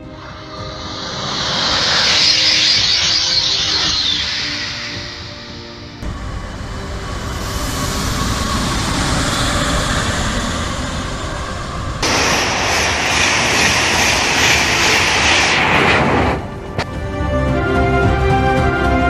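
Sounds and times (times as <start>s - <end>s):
high-speed train rushing: 0.0s - 17.6s.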